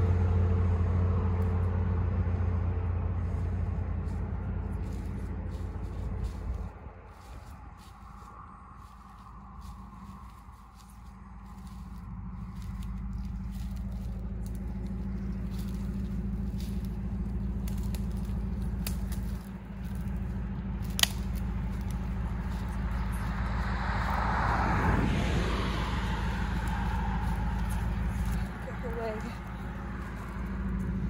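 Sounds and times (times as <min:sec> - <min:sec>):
vehicle engine idling: 0:00.0 - 0:31.0
footsteps through dry brush: 0:03.2 - 0:31.0.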